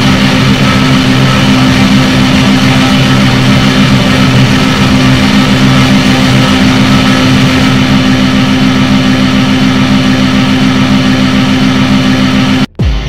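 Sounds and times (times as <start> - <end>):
kart engine at high revs: 0.0 - 12.7.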